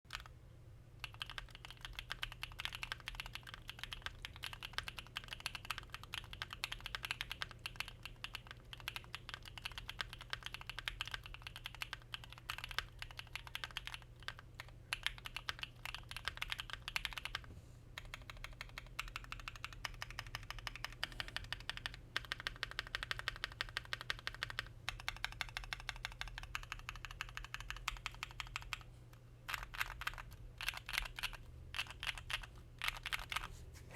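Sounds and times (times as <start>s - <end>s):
mechanical keyboard typing: 0.1s - 0.3s, 1.0s - 28.8s, 29.5s - 33.5s.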